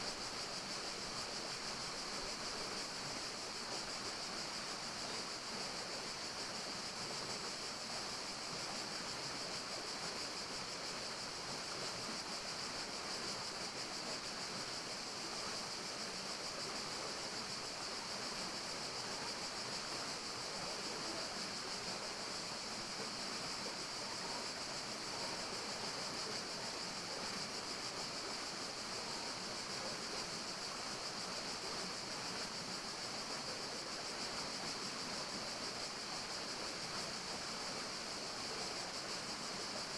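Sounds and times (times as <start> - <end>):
forest ambience hiss: 0.0 - 39.9.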